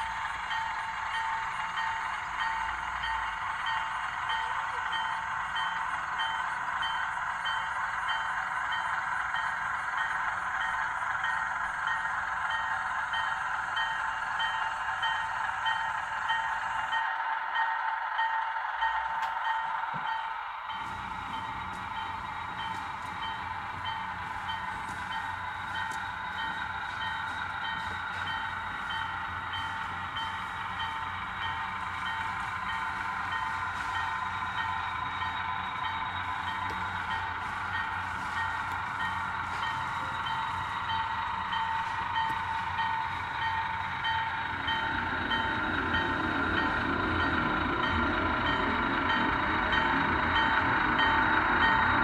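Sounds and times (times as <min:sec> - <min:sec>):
model locomotive whirring: 0:00.0 - 0:52.0.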